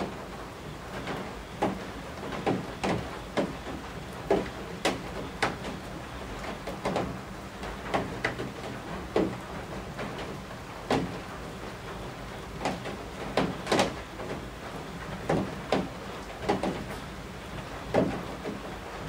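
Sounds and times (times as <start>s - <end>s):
drops knocking from roof eaves: 0.0s - 18.8s
steady rain: 0.0s - 19.0s.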